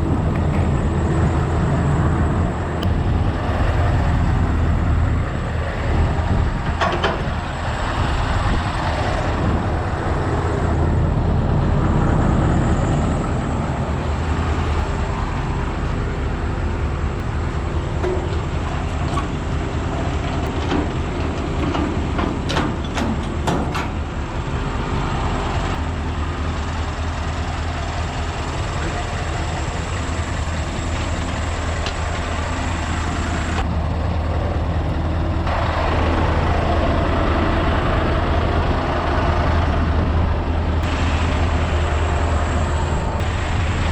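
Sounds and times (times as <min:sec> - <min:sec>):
truck engine droning: 0:00.0 - 0:43.9.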